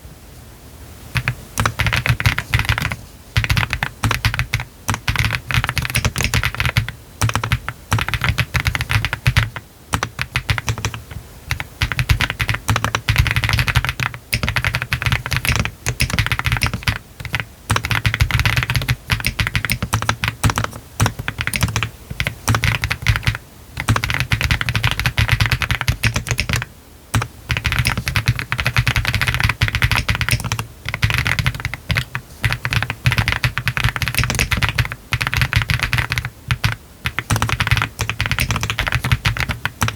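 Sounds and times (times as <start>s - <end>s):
fast typing on mechanical keyboard: 1.2s - 39.9s.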